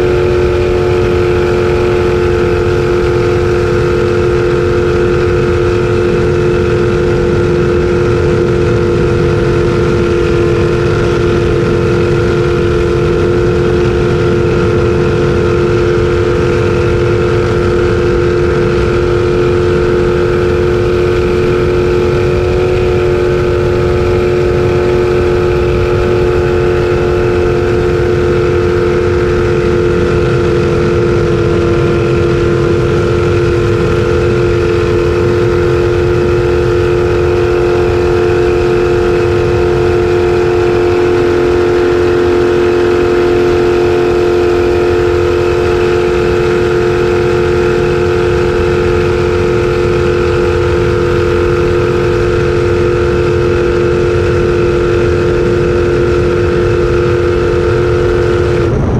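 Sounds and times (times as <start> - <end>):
jet boat engine running: 0.0 - 58.9.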